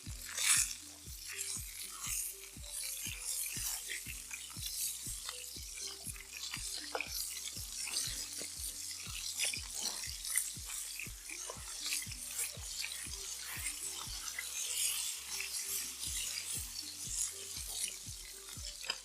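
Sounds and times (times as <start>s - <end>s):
food sizzling over a fire: 0.0s - 19.0s.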